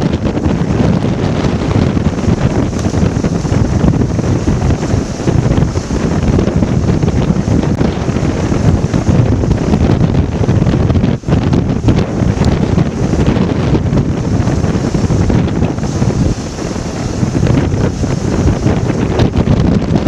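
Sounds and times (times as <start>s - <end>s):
strong wind buffeting microphone: 0.0s - 20.0s.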